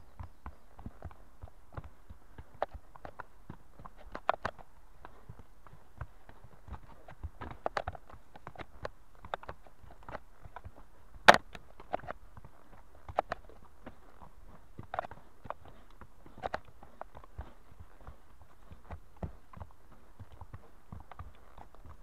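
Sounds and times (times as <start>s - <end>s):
pony hooves on dirt trail: 0.0s - 22.0s.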